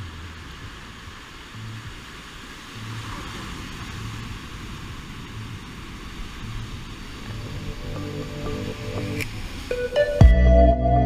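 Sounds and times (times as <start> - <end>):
surf washing up a beach: 0.0 - 10.2
low rumble of waves: 0.0 - 11.0.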